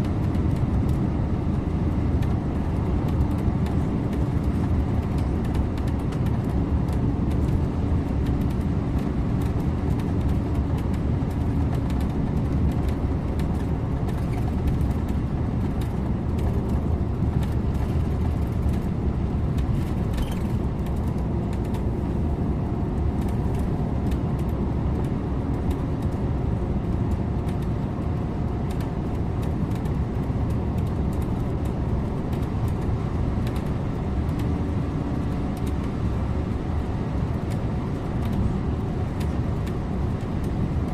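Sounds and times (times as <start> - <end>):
coach engine hum: 0.0 - 40.9
tyre and road noise: 0.0 - 40.9.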